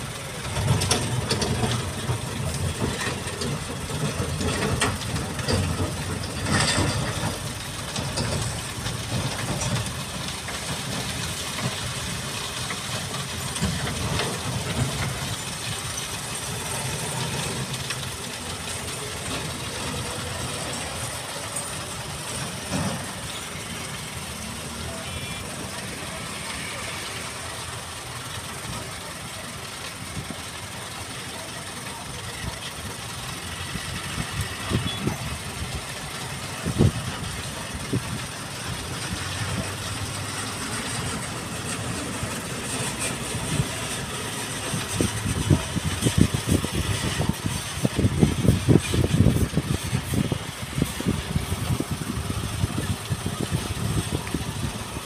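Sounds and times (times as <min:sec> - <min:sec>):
diesel truck engines running: 0:00.0 - 0:55.0.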